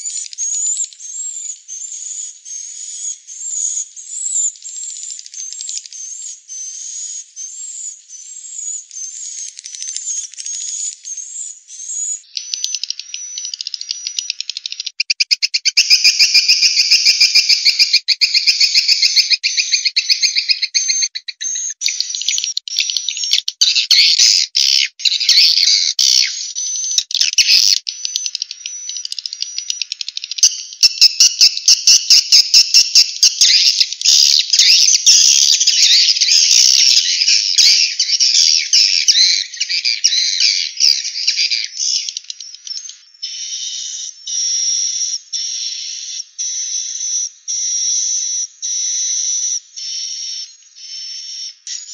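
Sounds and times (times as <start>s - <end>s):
high twittering bird chirps: 0.0s - 51.9s.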